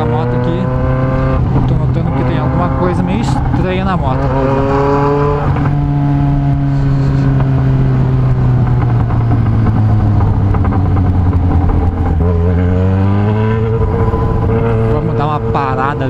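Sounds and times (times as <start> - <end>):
motorcycle engine with loud exhaust: 0.0 - 16.0.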